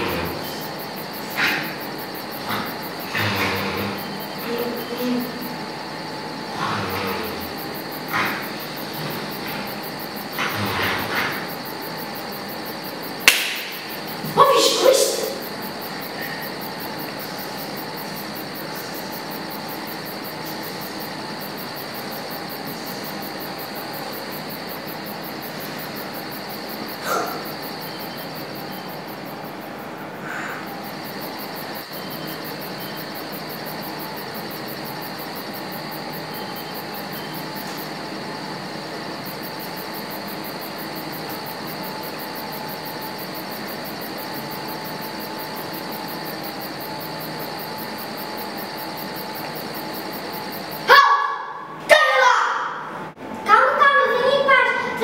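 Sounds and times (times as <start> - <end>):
steady hiss: 0.0 - 50.9
faint high whining tones: 0.0 - 52.2.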